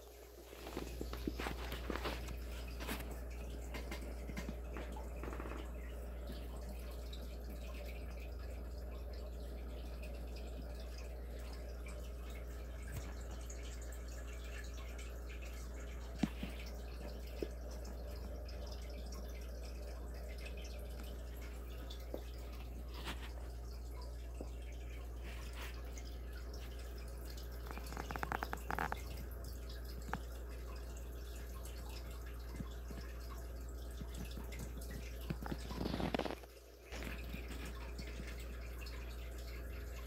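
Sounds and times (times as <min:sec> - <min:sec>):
faint clicks and taps: 0:00.4 - 0:39.6.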